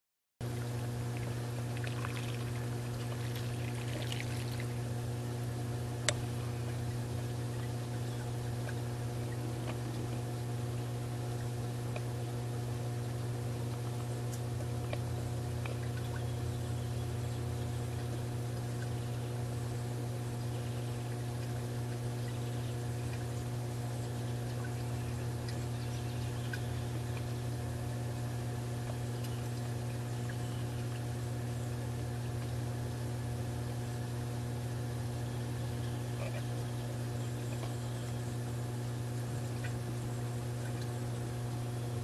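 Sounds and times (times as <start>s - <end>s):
electric motor hum: 0.5s - 42.0s.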